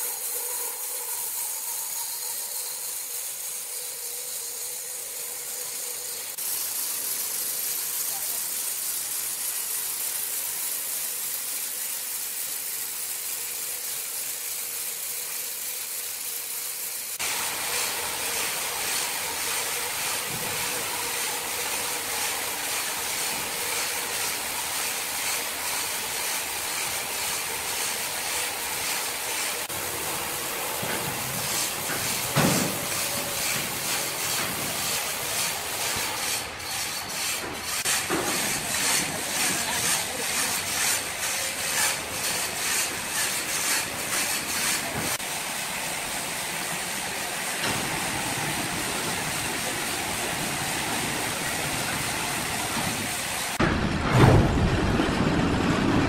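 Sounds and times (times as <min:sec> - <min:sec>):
saw blade cutting log: 0:00.0 - 0:45.3
sawmill machine running: 0:00.0 - 0:56.0.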